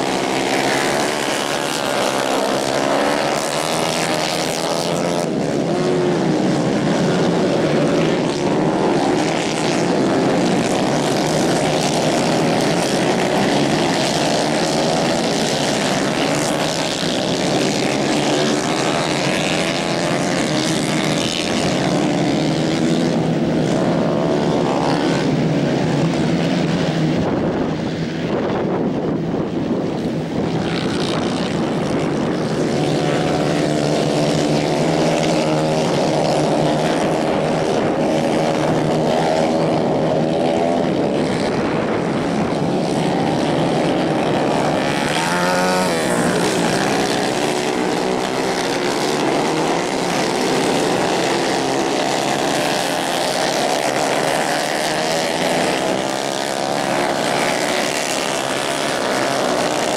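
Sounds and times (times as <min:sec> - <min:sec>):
racing kart engines: 0:00.0 - 0:59.9.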